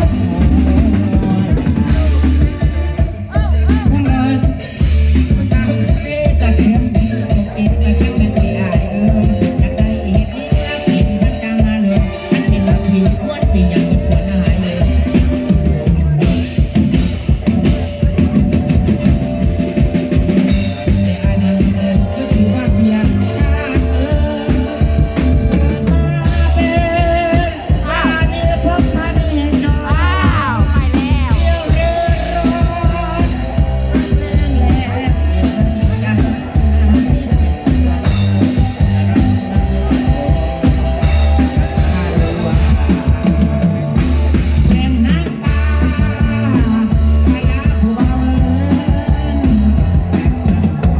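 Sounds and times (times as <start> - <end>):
bass guitar: 0.0 - 50.9
drum kit beat: 0.0 - 50.9.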